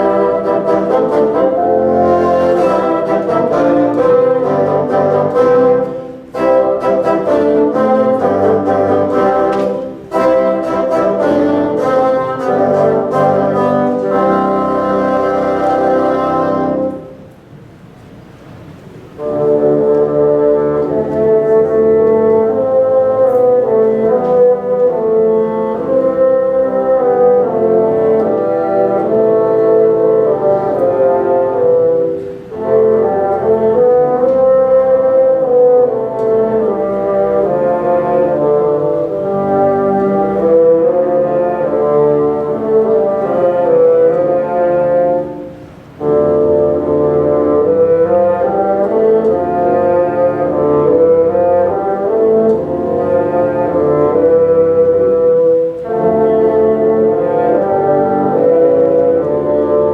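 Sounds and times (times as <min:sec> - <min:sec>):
bassoons playing sustained chords: 0:00.0 - 0:17.4, 0:19.1 - 0:59.9.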